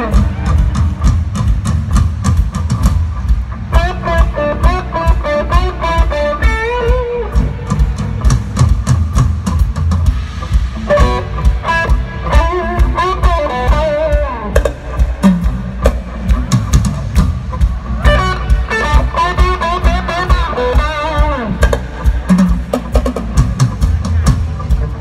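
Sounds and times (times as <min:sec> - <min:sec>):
live rock band: 0:00.0 - 0:25.0.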